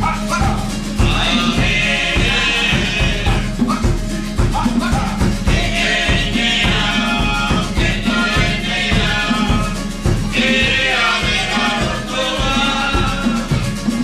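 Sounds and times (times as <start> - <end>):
quick drum beat: 0.0 - 14.0
voices singing together: 0.0 - 14.0.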